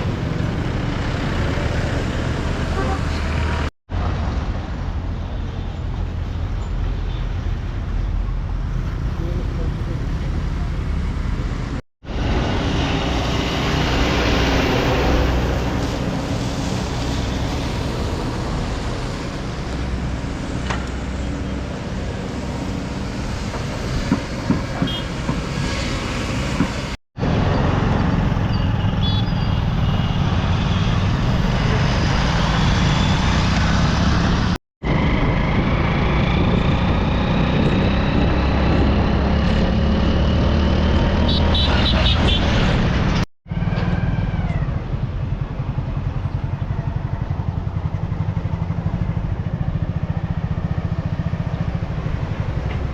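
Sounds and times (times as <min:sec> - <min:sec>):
road noise: 0:00.0 - 0:52.9
vehicle engine: 0:00.0 - 0:52.9.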